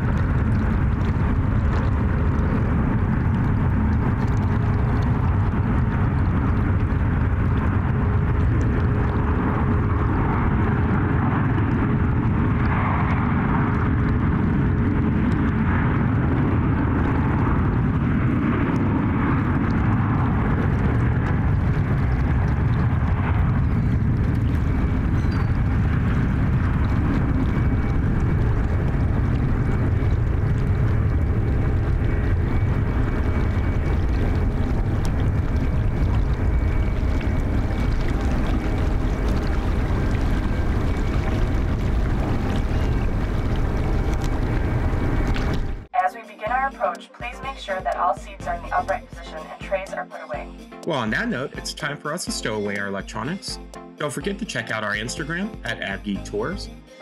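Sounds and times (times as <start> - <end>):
jet engines rumbling: 0.0 - 55.8.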